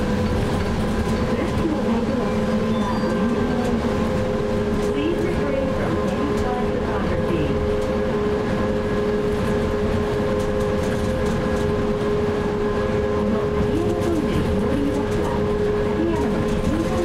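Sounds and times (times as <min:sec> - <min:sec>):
road rumble: 0:00.0 - 0:17.0.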